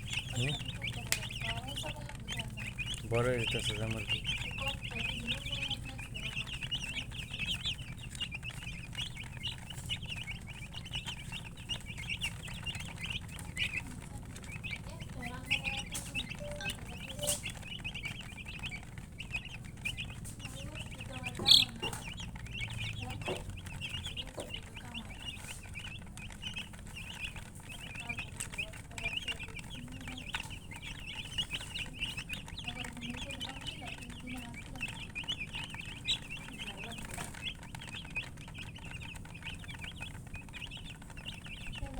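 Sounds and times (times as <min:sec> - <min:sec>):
chicks peeping: 0:00.0 - 0:41.9
hen clucking: 0:00.0 - 0:41.9.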